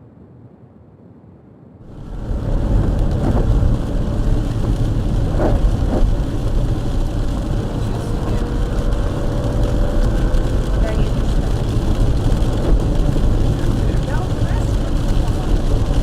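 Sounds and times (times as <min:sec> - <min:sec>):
car road and engine rumble: 0:01.8 - 0:16.0.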